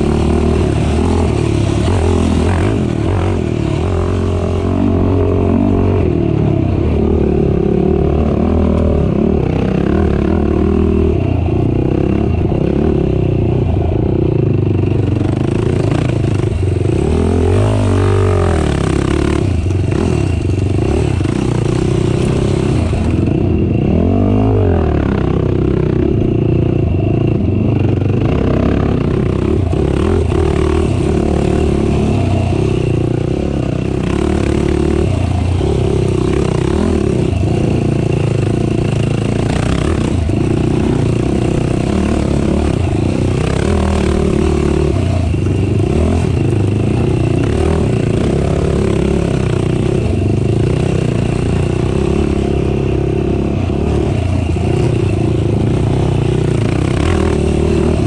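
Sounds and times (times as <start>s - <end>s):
atv engine running hard: 0.0s - 58.0s
clatter: 0.0s - 58.0s.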